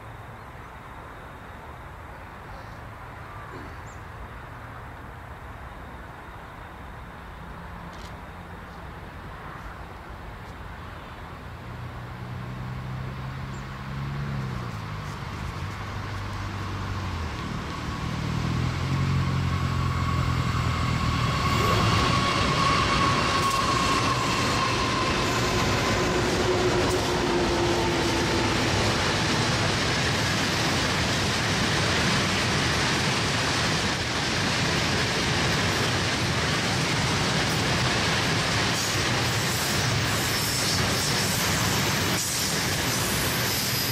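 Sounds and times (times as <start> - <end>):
diesel locomotive engines: 0.0 - 43.9.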